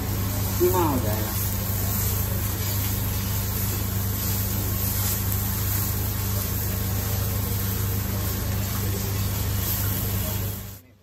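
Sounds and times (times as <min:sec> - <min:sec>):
food sizzling on griddle: 0:00.0 - 0:11.0
steady low hum: 0:00.0 - 0:11.0.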